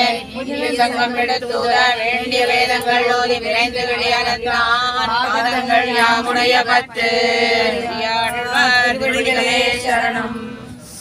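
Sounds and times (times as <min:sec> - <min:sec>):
women chanting in unison: 0:00.0 - 0:10.7.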